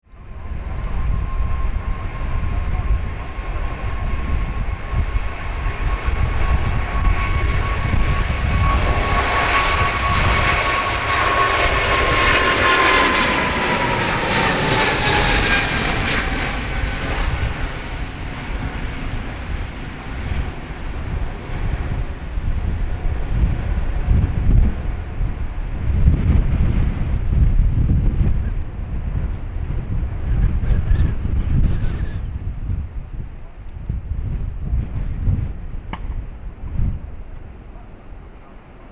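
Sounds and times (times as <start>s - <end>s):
jet engines roaring at takeoff: 0.1s - 38.9s.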